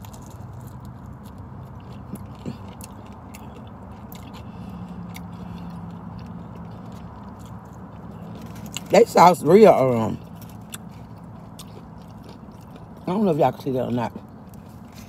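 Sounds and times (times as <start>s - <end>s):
person chewing with wet clicks: 0.0s - 15.0s
steady low hum: 0.0s - 15.0s.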